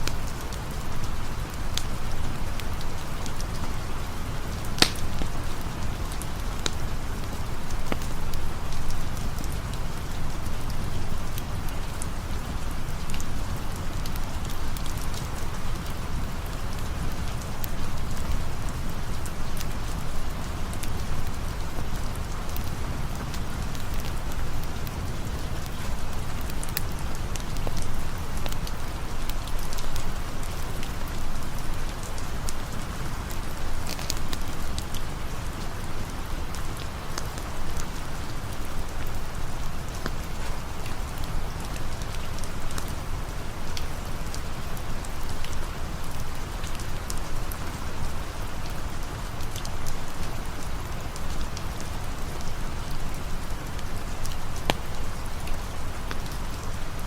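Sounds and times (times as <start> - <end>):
raindrops ticking: 0.0 - 57.0
steady rain hiss: 0.0 - 57.0.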